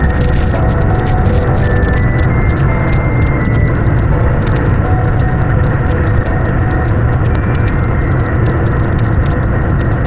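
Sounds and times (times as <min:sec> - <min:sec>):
music of sustained melodic notes: 0:00.0 - 0:09.8
heavy rain: 0:00.0 - 0:10.0.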